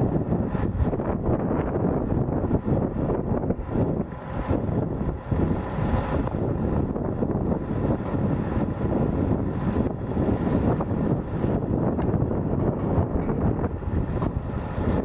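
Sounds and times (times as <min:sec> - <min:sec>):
diesel truck engine running: 0:00.0 - 0:15.0
wind buffeting microphone: 0:00.0 - 0:15.0.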